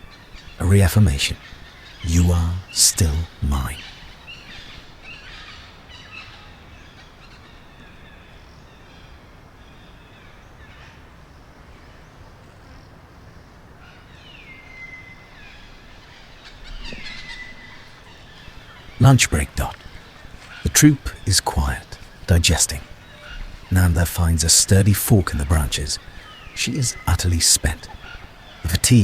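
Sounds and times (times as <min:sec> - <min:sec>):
faint bird calls: 0:00.0 - 0:29.0.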